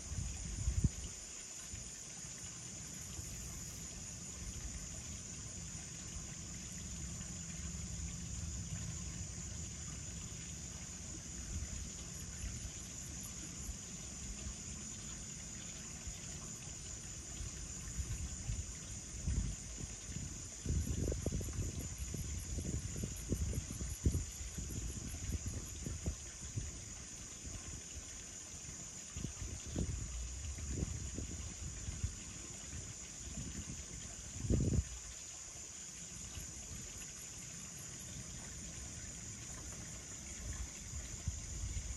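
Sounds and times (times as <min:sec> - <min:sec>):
night insects chorus: 0:00.0 - 0:41.9.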